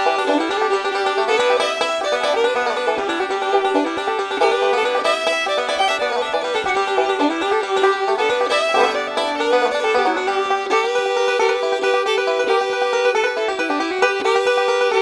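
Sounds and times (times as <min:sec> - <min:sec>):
bluegrass banjo music: 0:00.0 - 0:15.0.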